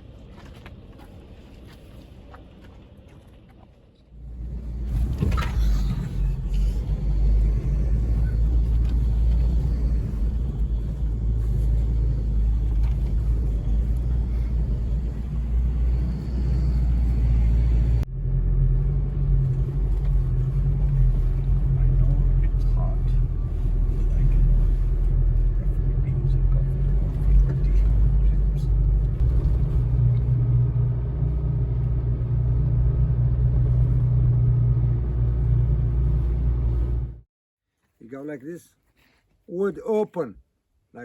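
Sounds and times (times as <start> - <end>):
motor vehicle engine rumble: 0.0 - 37.3.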